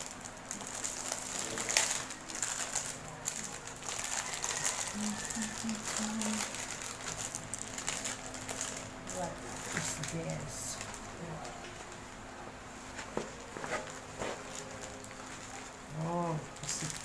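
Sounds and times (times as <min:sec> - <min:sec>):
plastic packaging crinkling: 0:00.0 - 0:12.2, 0:13.0 - 0:17.0
sharp plastic crackle: 0:00.0 - 0:12.2, 0:13.0 - 0:17.0.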